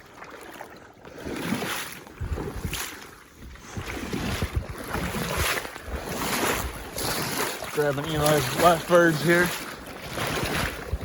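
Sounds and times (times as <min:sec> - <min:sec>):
water sloshing and splashing: 0:00.0 - 0:11.0
wind buffeting microphone: 0:02.0 - 0:11.0.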